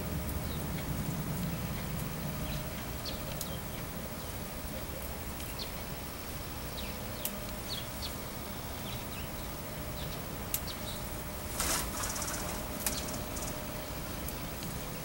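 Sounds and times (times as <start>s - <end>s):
low outdoor background hum: 0.0s - 15.0s
small birds chirping faintly: 0.0s - 15.0s.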